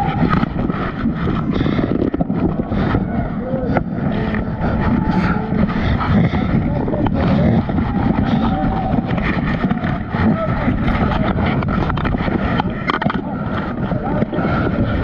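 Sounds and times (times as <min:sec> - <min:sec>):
faint voices: 0:00.0 - 0:15.0
muffled rumbling and rubbing: 0:00.0 - 0:15.0.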